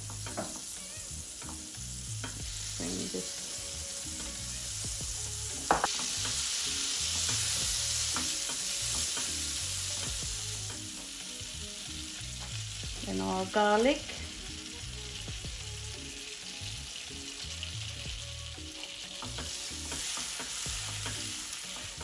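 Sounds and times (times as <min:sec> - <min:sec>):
butter sizzling in a frying pan: 0:00.0 - 0:22.0.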